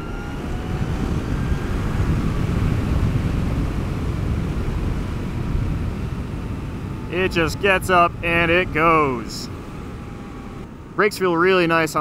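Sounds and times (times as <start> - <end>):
motorcycle tyre noise: 0.0 - 11.6
wind rush: 0.0 - 11.6.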